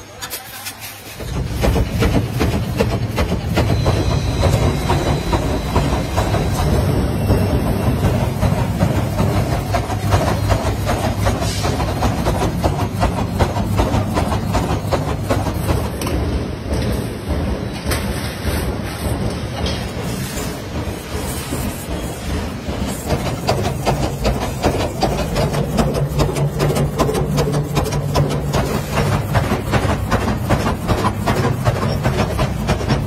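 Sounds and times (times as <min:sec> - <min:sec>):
metallic machinery clatter: 0:00.2 - 0:33.0.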